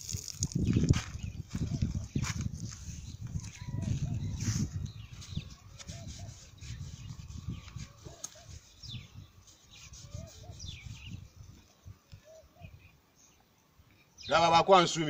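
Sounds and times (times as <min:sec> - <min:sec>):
wind rumble on microphone: 0:00.0 - 0:12.9
faint bird chirps: 0:00.7 - 0:14.3.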